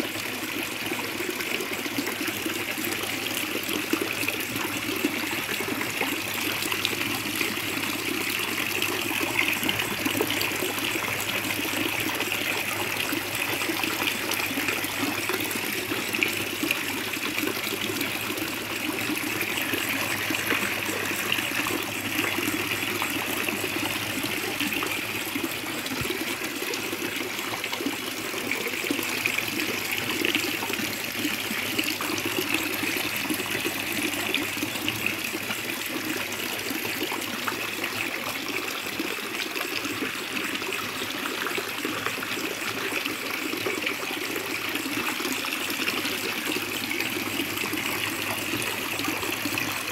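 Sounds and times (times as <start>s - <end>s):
water trickling and splashing: 0.0s - 49.9s.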